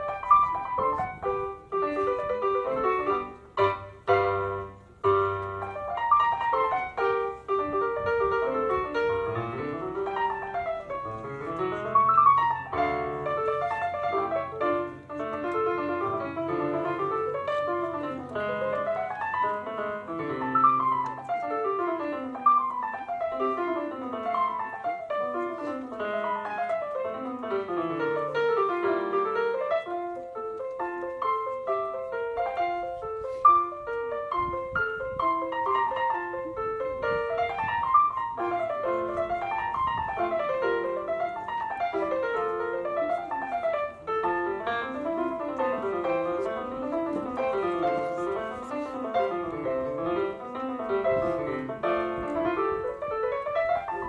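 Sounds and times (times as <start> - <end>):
electronic keyboard piano arpeggios: 0.0 - 54.0.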